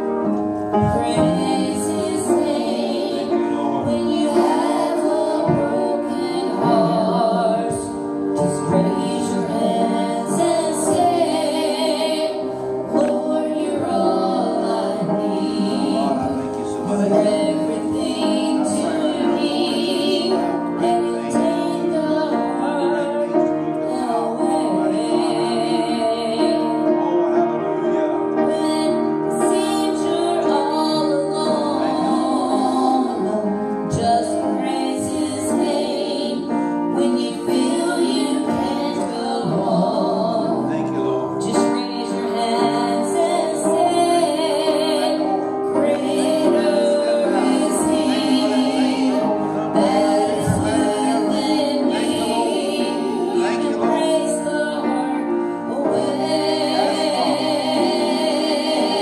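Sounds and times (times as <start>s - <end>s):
musical accompaniment: 0.0s - 59.0s
women singing gospel: 0.0s - 59.0s.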